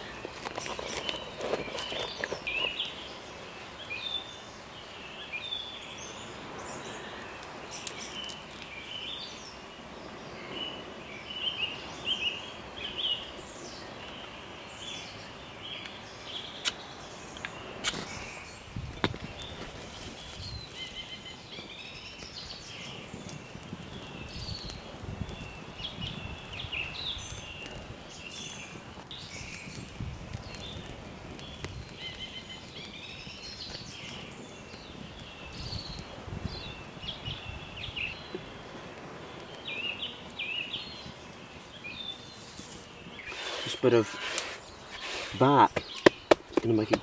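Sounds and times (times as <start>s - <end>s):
campfire crackling: 0.0s - 47.0s
small birds chirping: 0.0s - 47.0s.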